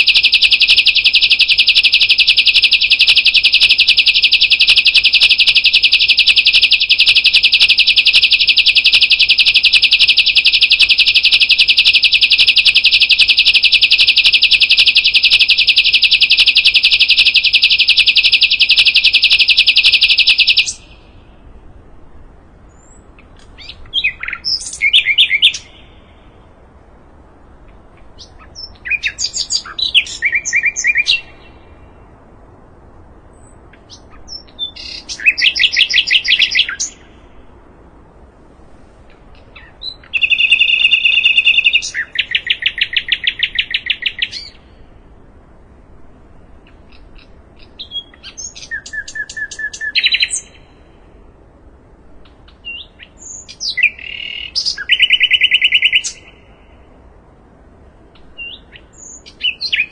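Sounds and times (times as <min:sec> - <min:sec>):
bird chirps and buzzy trills: 0:00.0 - 0:59.9.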